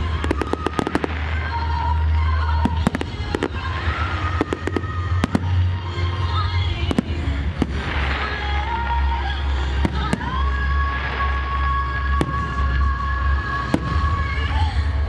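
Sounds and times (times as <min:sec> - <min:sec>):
fireworks bangs and crackles: 0:00.0 - 0:15.0
music over distant loudspeakers: 0:00.0 - 0:15.0
steady low rumble: 0:00.0 - 0:15.0.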